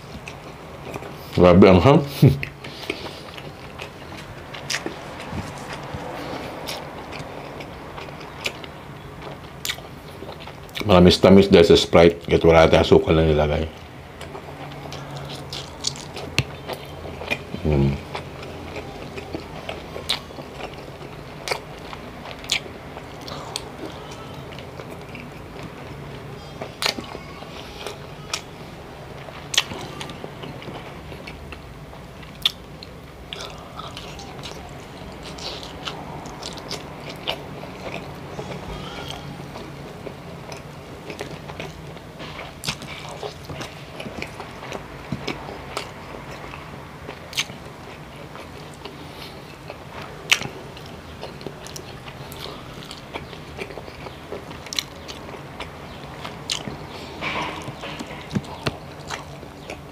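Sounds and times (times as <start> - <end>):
person chewing food: 0.0 - 1.4, 2.1 - 10.9, 13.7 - 59.9.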